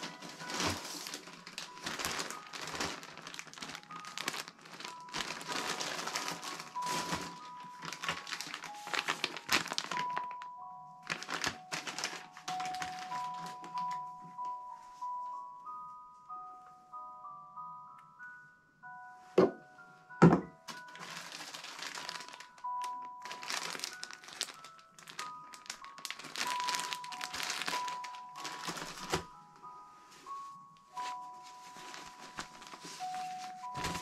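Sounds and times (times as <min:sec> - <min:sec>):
plastic packaging crinkling: 0:00.0 - 0:14.6, 0:20.7 - 0:34.0
soft melodic background music: 0:00.0 - 0:34.0.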